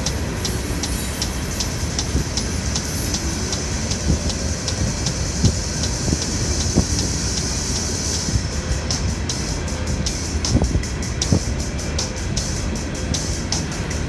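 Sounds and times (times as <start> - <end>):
crossing warning bell ringing: 0.0 - 14.0
steel wheels rumbling on rail: 0.0 - 14.0.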